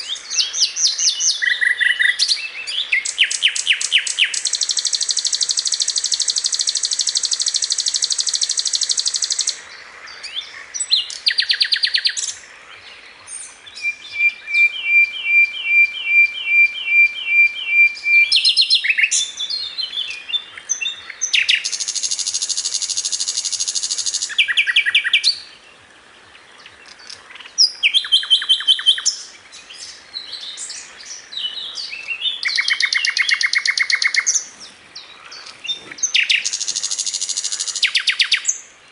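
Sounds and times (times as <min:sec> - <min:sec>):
songbird singing trills and whistles: 0:00.0 - 0:09.6, 0:10.2 - 0:25.7, 0:26.4 - 0:38.8.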